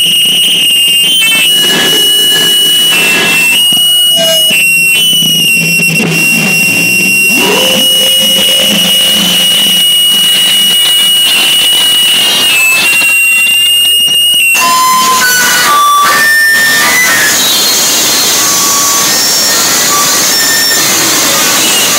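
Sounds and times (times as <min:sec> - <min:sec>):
high electronic whine: 0:00.0 - 0:21.9
low sliding electronic tone: 0:00.0 - 0:21.9.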